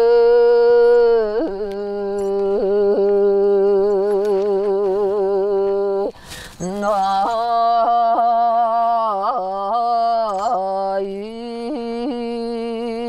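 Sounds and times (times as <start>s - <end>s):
woman throat singing: 0.0s - 13.0s.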